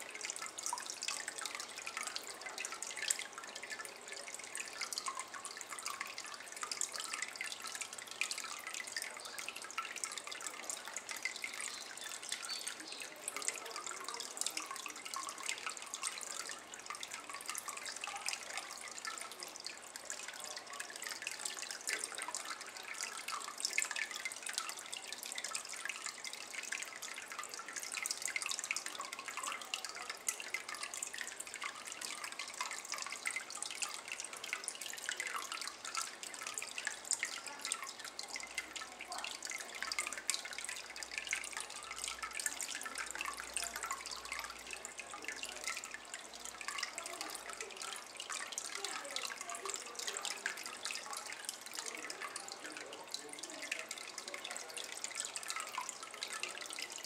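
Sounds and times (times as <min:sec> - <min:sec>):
water trickling into a basin: 0:00.0 - 0:57.0.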